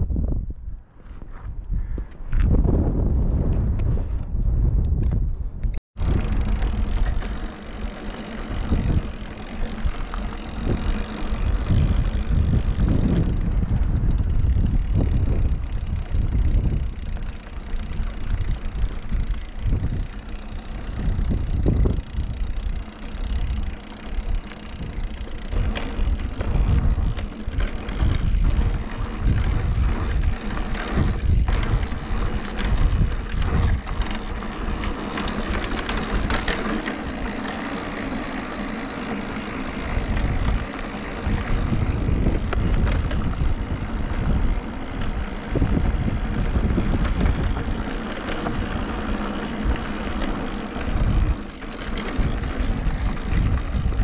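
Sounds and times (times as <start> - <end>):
bike rattles and clicks: 0.0 - 54.0
wind buffeting microphone: 0.0 - 54.0
tyres rolling on dirt: 6.0 - 54.0.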